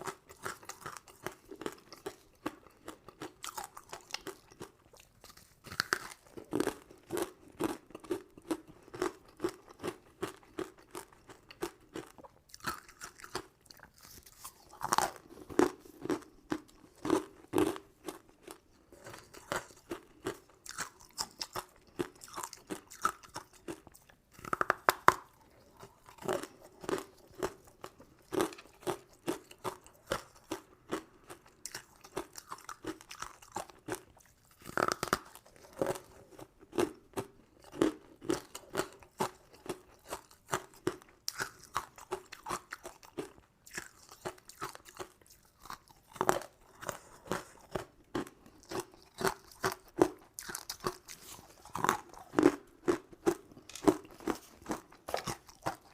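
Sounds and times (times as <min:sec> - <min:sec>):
chewing crunchy sweets: 0:00.0 - 0:55.9.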